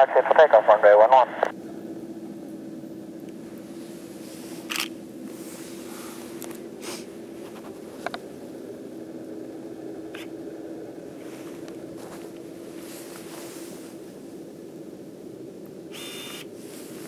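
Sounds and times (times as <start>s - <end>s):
distant jet engines humming: 0.0s - 17.0s.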